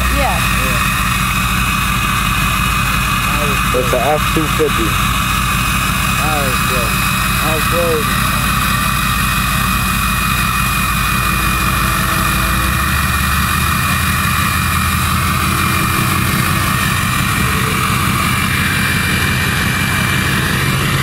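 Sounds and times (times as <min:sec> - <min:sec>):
high whine: 0:00.0 - 0:21.0
low engine rumble: 0:00.0 - 0:21.0.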